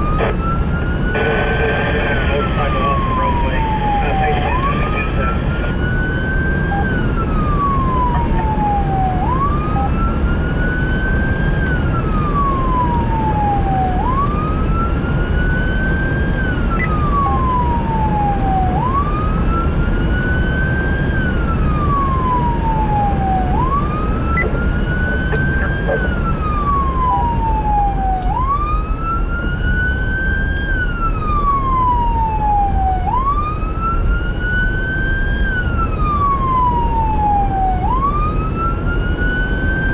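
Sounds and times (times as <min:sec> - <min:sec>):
emergency vehicle siren wailing: 0:00.0 - 0:39.9
engine and road rumble: 0:00.0 - 0:39.9.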